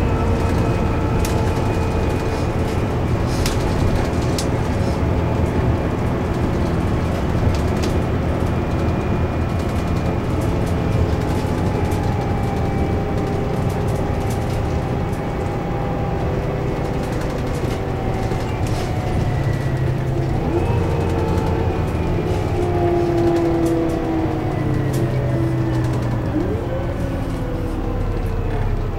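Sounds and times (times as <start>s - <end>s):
bus diesel engine running: 0.0s - 28.9s
body clicks and rattles: 0.2s - 28.6s.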